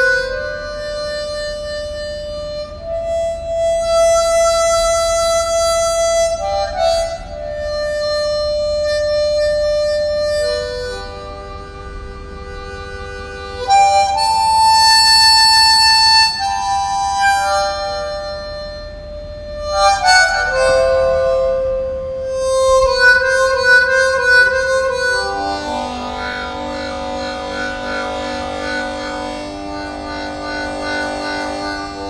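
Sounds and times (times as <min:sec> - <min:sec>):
harmonica slow melody: 0:00.0 - 0:32.0.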